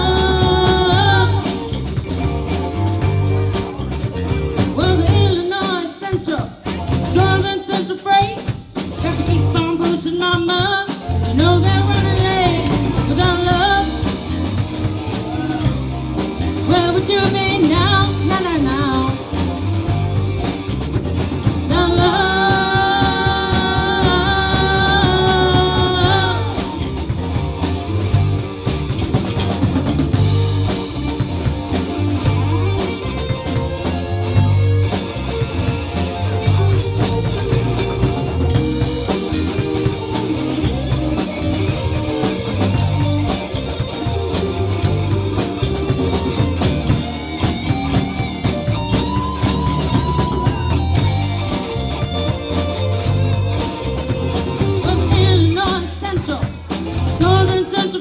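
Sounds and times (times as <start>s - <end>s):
drum-kit beat: 0.0s - 58.0s
electric guitars: 0.0s - 58.0s.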